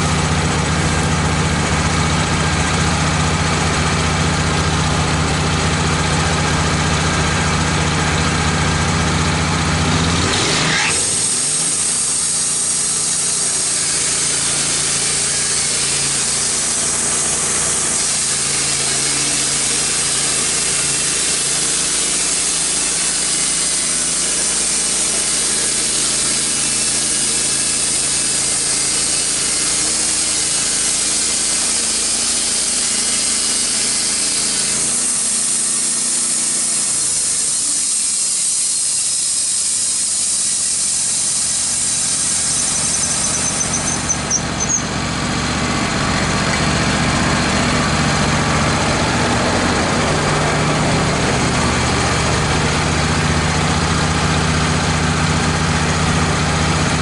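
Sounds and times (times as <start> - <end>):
band saw cutting log: 0.0 - 57.0
sawmill engine: 0.0 - 57.0.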